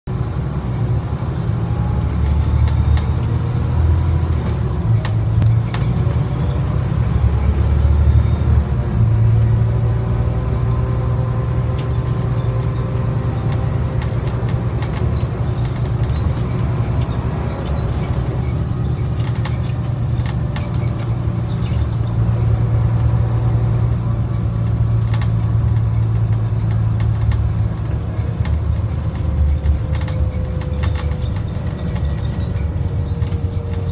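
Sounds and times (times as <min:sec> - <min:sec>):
bus engine drone: 0:00.0 - 0:33.9.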